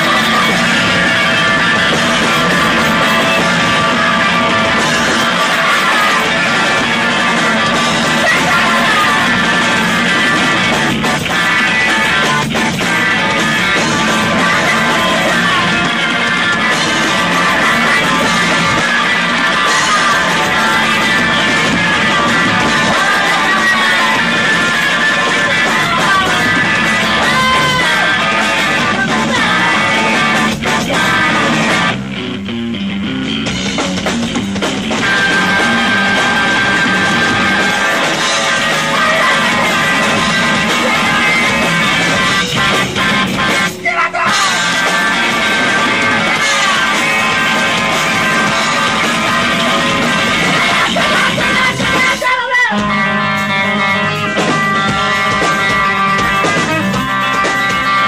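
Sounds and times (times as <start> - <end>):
bass guitar: 0.0 - 58.0
drums: 0.0 - 58.0
electric guitar: 0.0 - 58.0.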